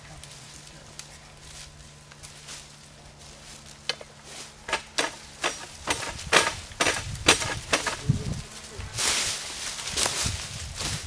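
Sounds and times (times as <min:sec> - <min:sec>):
dry leaves crunching: 0:00.0 - 0:11.0.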